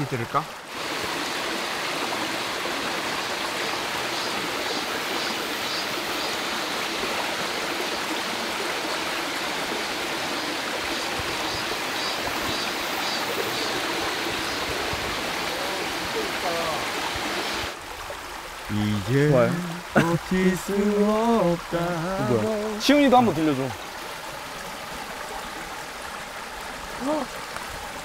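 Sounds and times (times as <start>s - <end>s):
stream babbling over rocks: 0.0s - 28.0s.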